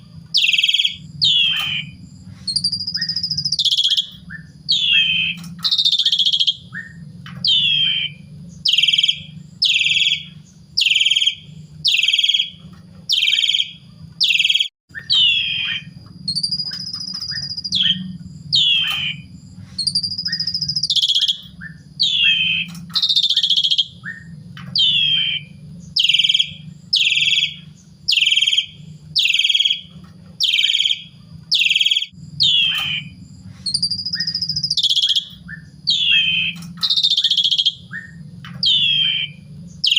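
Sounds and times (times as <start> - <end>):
low hum: 0.0 - 39.9
starling calling: 0.0 - 39.9
starling whistles: 0.0 - 39.9.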